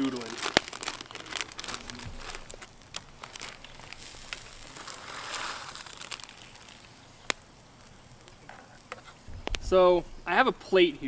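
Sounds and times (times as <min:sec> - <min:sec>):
light crinkling and rustling: 0:00.0 - 0:11.0.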